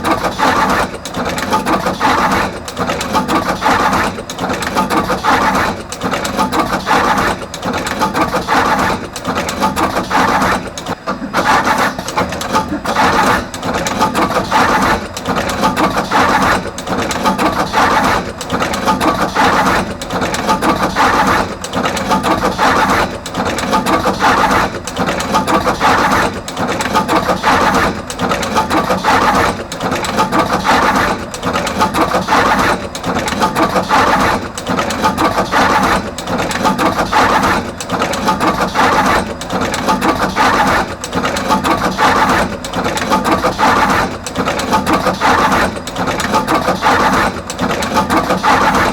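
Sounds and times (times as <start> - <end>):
wire crimping machine clattering: 0.0 - 48.9.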